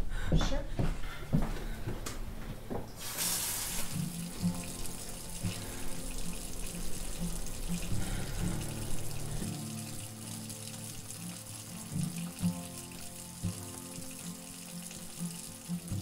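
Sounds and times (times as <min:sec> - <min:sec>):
quiet background music: 0:00.0 - 0:16.0
tap water running into sink: 0:03.0 - 0:16.0.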